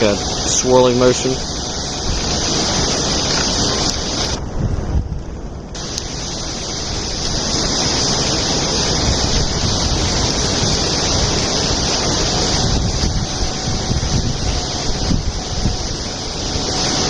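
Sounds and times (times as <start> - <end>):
running water: 0.0 - 4.4, 5.7 - 17.0
wind buffeting microphone: 0.0 - 17.0.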